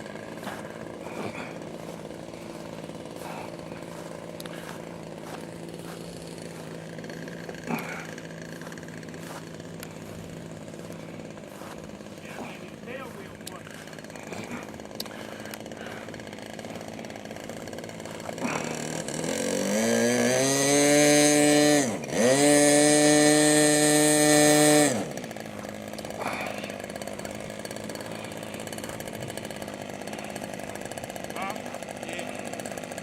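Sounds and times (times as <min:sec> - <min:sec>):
model plane engine revving: 0:00.0 - 0:33.0.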